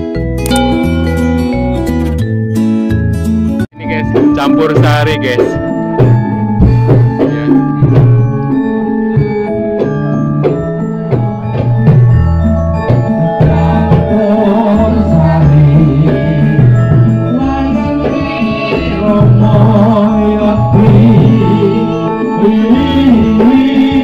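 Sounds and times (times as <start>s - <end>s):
gamelan-style pop music: 0.0s - 24.0s.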